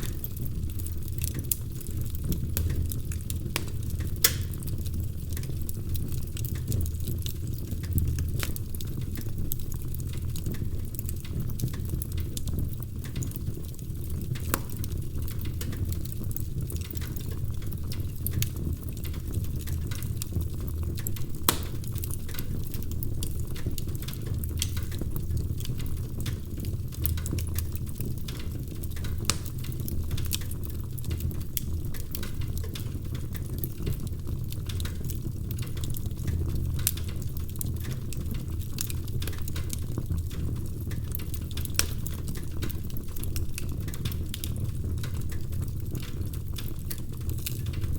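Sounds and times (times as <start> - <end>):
loud fire pops: 0.0 - 9.4, 11.4 - 25.7, 27.0 - 31.1, 31.8 - 47.9
wood fire crackling: 0.0 - 47.9.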